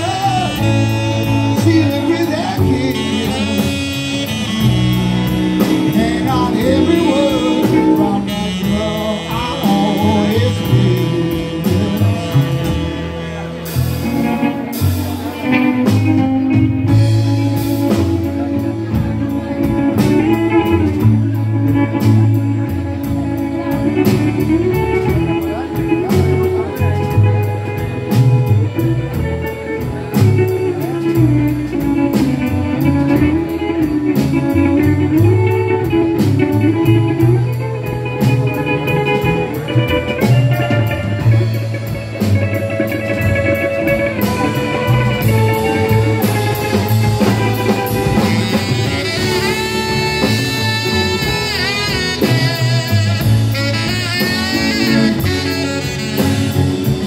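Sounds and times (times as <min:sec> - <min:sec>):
rockabilly band playing: 0:00.0 - 0:57.0
saxophone: 0:00.0 - 0:57.0
upright bass: 0:00.0 - 0:57.0.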